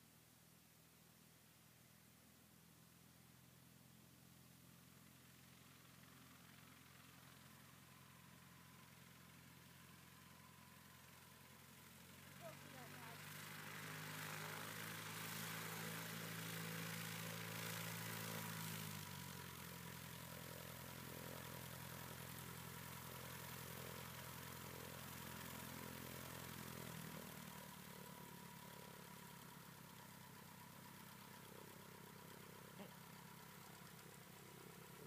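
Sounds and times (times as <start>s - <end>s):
light aircraft engine running: 0.0s - 35.0s.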